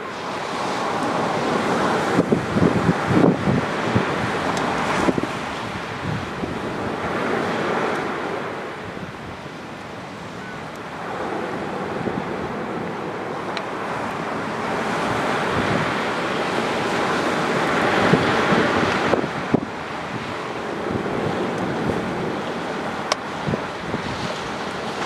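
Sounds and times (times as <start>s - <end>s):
surf washing onto beach: 0.0s - 25.0s
wind on microphone: 0.0s - 25.0s.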